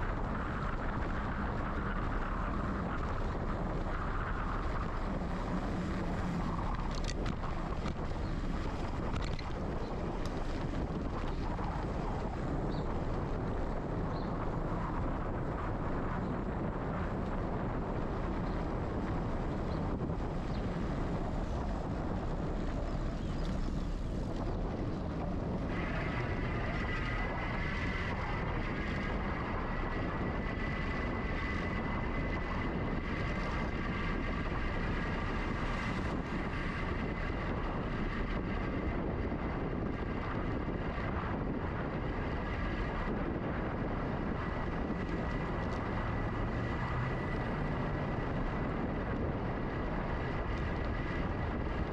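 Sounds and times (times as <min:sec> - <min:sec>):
high motor whine: 0:00.0 - 0:51.9
low rumble: 0:00.0 - 0:51.9
wind rushing over microphone: 0:00.0 - 0:51.9.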